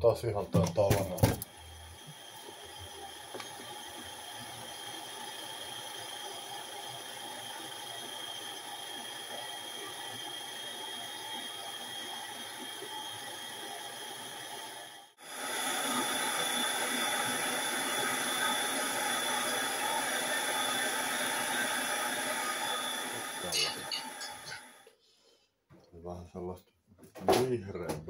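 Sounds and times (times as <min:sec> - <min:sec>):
water running from tap into sink: 0:00.3 - 0:24.8.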